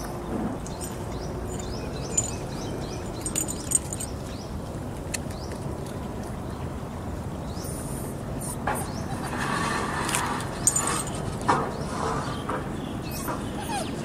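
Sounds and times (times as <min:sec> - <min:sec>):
birds chirping: 0:00.0 - 0:14.0
steady outdoor background hum: 0:00.0 - 0:14.0.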